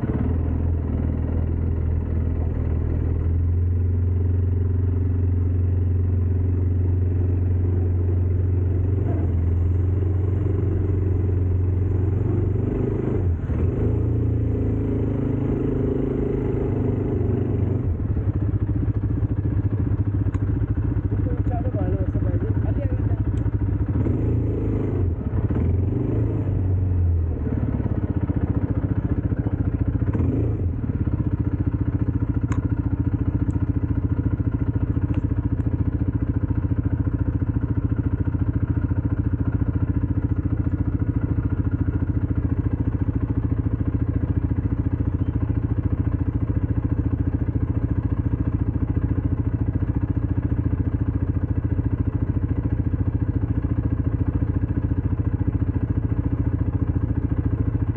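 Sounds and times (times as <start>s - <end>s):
engine clatter: 0.0s - 57.9s
quad bike engine running: 0.0s - 57.9s.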